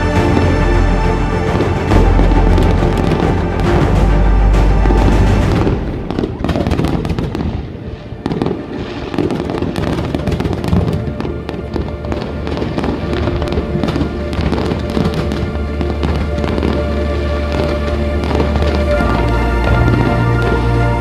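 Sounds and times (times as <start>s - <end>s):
music playing: 0.0s - 21.0s
fireworks bangs and crackles: 1.4s - 21.0s.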